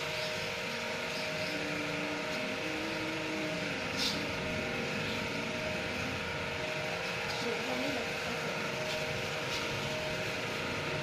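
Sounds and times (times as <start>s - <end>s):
machine hum with held tones: 0.0s - 11.0s.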